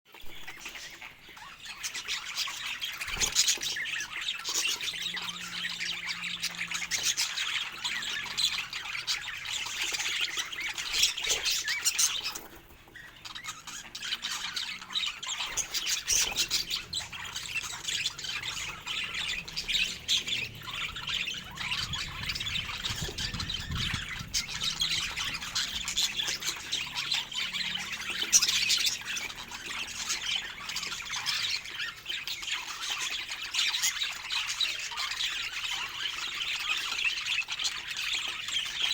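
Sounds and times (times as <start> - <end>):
budgerigars chattering and squawking: 0.1 - 38.9.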